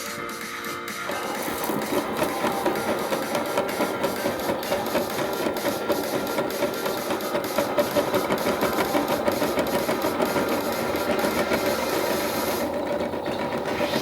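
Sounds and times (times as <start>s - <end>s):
toy washing machine motor whirring: 1.0s - 14.0s.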